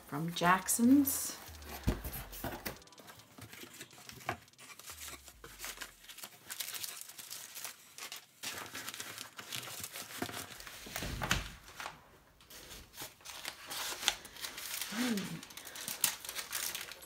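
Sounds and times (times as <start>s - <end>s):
packing paper rustling and crumpling: 0.0s - 17.0s.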